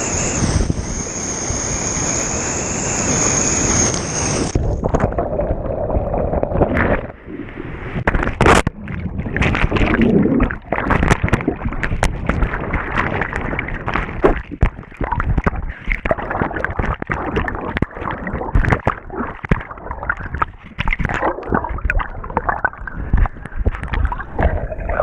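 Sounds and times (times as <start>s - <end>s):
water splashing around a kayak: 4.4s - 25.0s.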